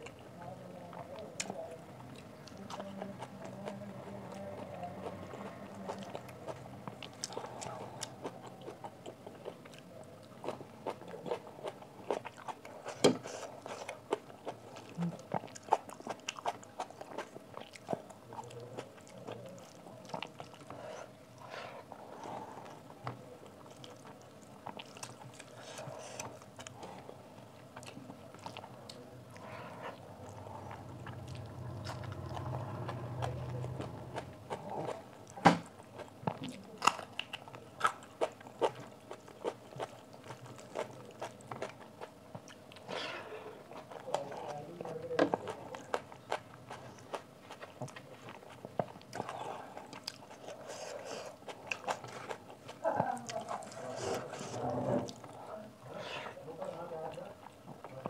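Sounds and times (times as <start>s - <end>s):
chewing and mouth smacks: 4.6s - 21.2s, 22.7s - 42.9s, 43.7s - 53.9s.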